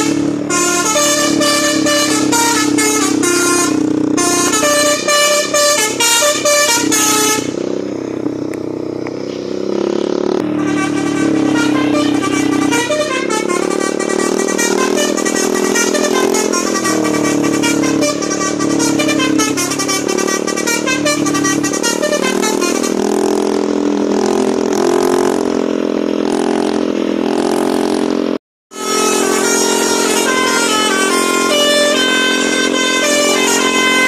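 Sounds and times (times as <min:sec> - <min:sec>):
multi-tone bus horn playing a tune: 0:00.0 - 0:07.9, 0:09.6 - 0:28.0, 0:28.7 - 0:34.0.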